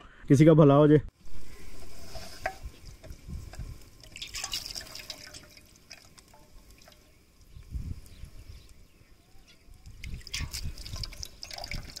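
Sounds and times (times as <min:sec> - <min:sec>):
water splashing and dripping: 0:01.2 - 0:08.9, 0:09.7 - 0:12.0.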